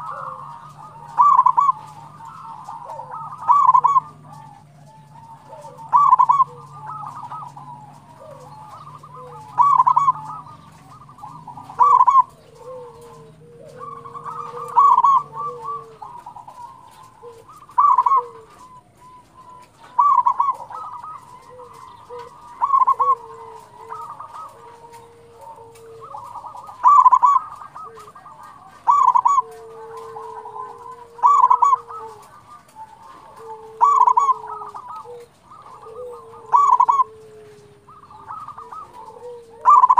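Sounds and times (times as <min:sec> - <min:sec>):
dove trilled cooing: 0:00.0 - 0:39.9
soft drawn-out dove coos: 0:00.0 - 0:39.9.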